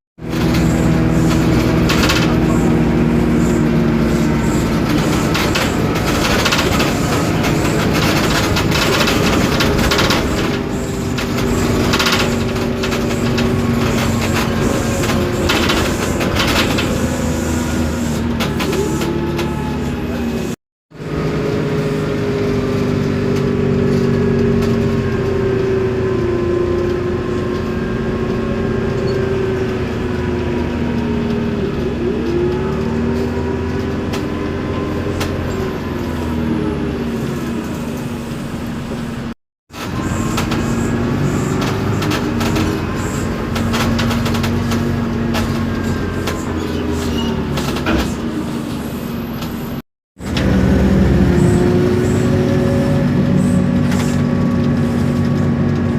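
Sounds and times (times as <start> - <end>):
bus engine and gearbox whine: 0.2 - 55.9.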